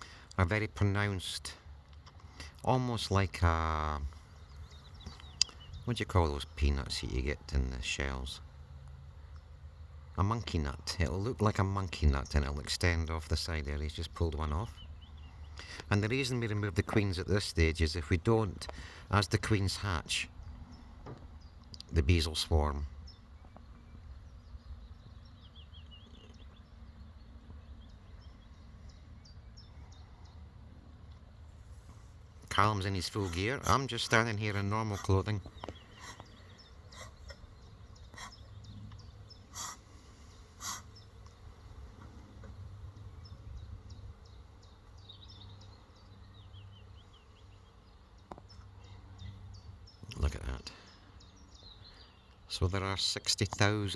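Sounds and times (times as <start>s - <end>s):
honeybees humming: 0.0s - 53.9s
small birds chirping: 0.0s - 53.9s.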